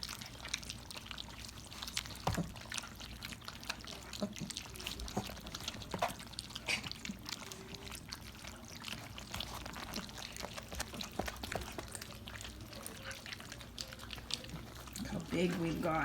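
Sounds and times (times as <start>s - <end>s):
puppies lapping wet food: 0.0s - 16.0s.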